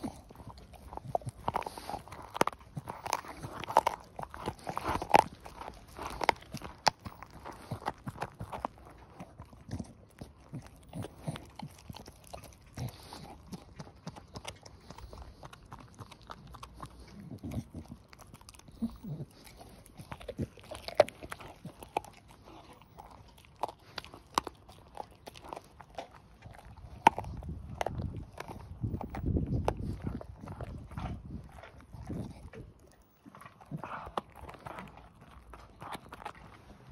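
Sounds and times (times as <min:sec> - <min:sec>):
dog gnawing bone: 0:00.0 - 0:36.9.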